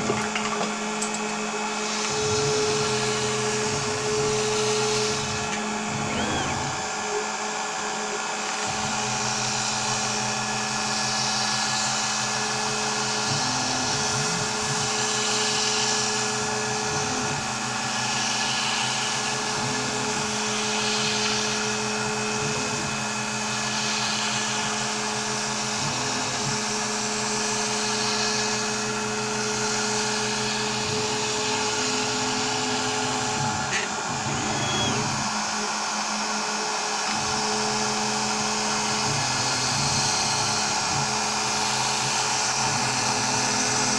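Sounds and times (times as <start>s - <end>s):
router spindle whining: 0.0s - 43.9s
shop vac running: 0.0s - 43.9s.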